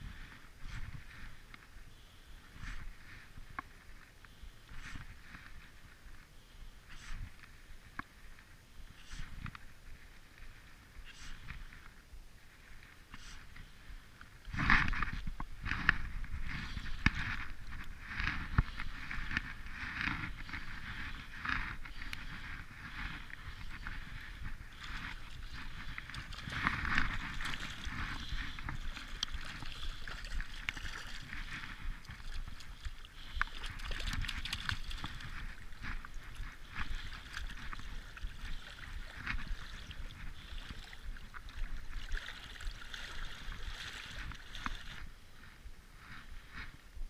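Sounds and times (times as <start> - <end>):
water sloshing against kayak: 0.0 - 46.7.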